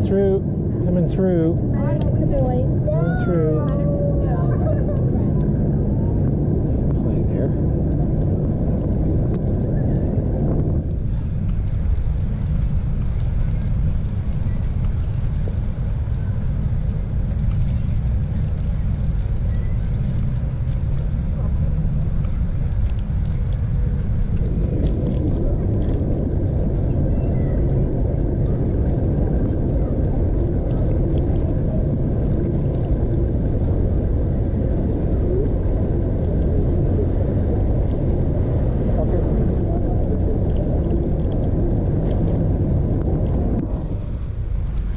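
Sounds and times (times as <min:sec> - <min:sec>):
bicycle rolling noise: 0:00.0 - 0:44.9
wind buffeting microphone: 0:00.0 - 0:44.9.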